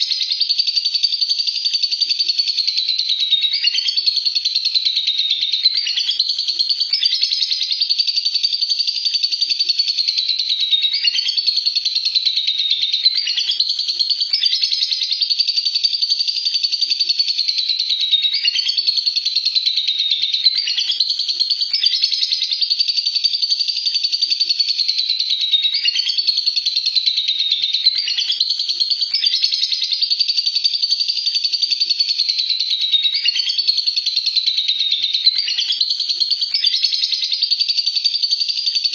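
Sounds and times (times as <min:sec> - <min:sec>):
lovebird high-pitched chatter: 0:00.0 - 0:38.9.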